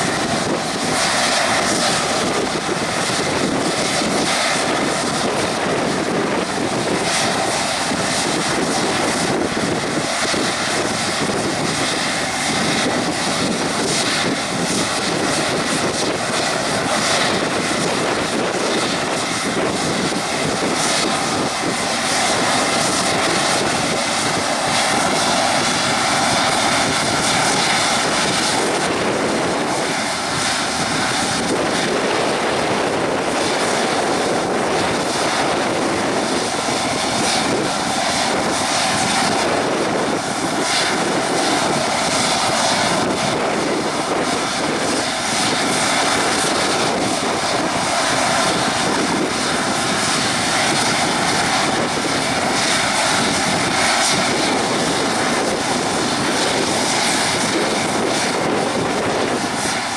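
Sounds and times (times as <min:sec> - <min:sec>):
faint steady engine whine: 0:00.0 - 0:59.9
jet engines idling: 0:00.0 - 0:59.9.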